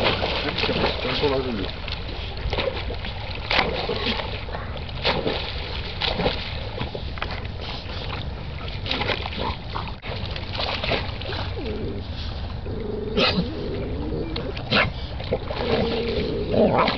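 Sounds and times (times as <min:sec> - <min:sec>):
dogs splashing in water: 0:00.0 - 0:16.9.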